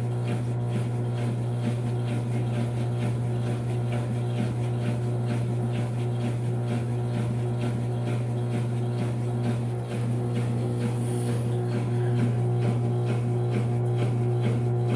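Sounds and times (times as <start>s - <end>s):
washing machine spinning: 0.0s - 14.9s.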